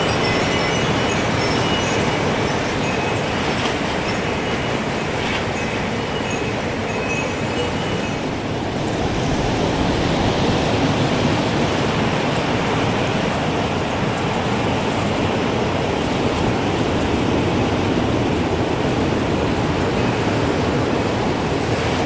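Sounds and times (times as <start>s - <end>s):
strong wind rushing: 0.0s - 22.0s.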